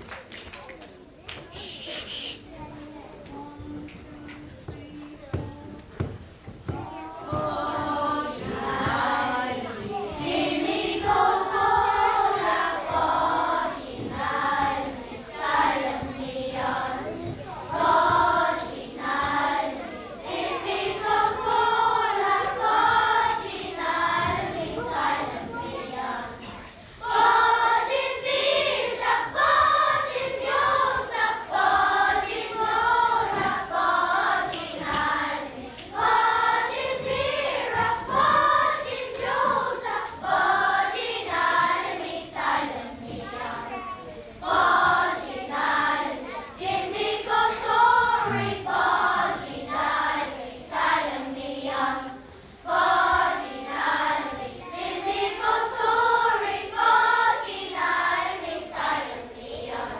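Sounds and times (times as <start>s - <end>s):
children's choir singing: 1.4s - 59.9s.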